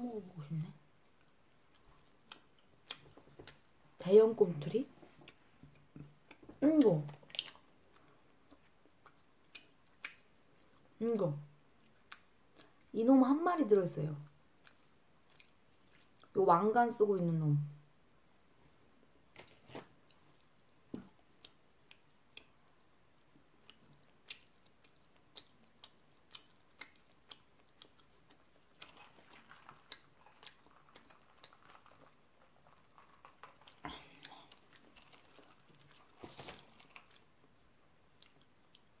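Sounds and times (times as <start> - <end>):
close chewing of gummy candy: 0.8 - 13.0, 14.2 - 16.4, 18.6 - 39.0.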